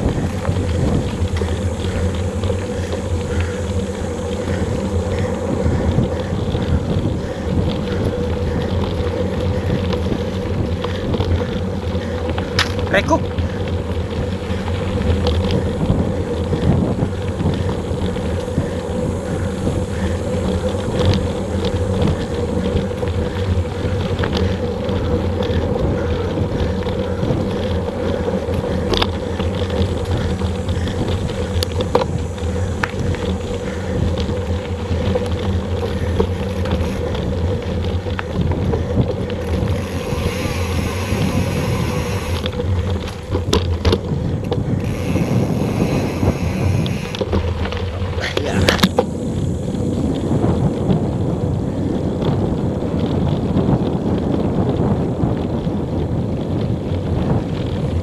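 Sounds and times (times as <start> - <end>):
bike clicks and rattles: 0.0 - 58.0
wind on microphone: 0.0 - 58.0.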